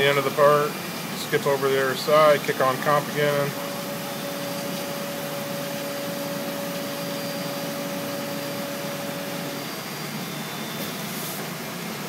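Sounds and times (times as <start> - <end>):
milling machine noise: 0.0 - 12.0.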